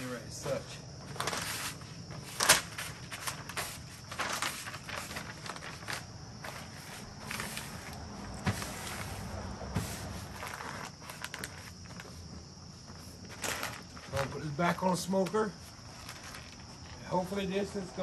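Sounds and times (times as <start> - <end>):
damp paper rustling and crinkling: 0.4 - 18.0.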